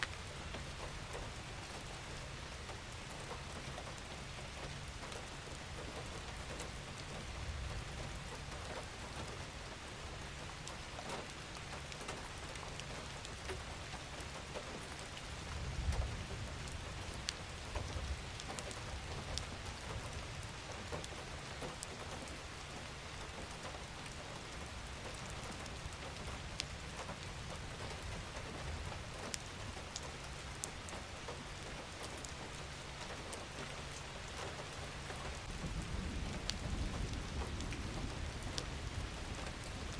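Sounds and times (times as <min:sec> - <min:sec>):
gentle rain falling: 0:00.0 - 0:39.9
individual raindrops: 0:00.0 - 0:39.9.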